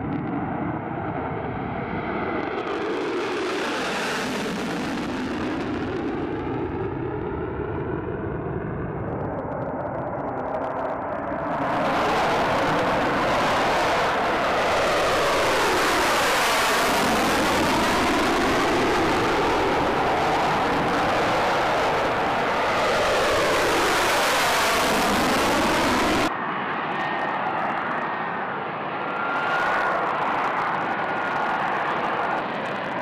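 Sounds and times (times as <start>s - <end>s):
fighter jet afterburner roar: 0.0s - 33.0s.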